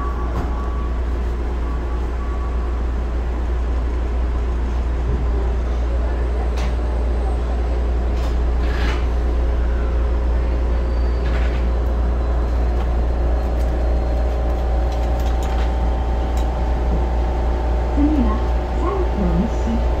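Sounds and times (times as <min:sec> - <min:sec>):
train low hum: 0:00.0 - 0:20.0.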